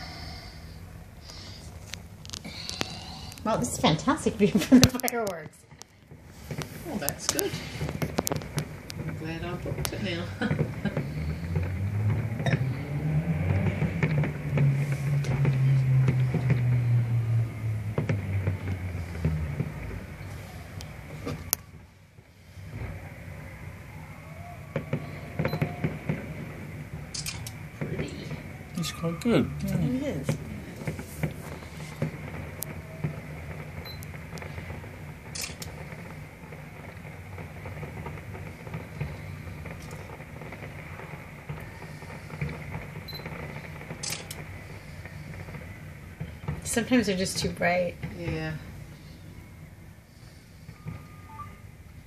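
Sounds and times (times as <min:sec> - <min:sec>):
continuous low rumble: 0:00.0 - 0:52.0
distant fireworks bangs: 0:00.0 - 0:52.0.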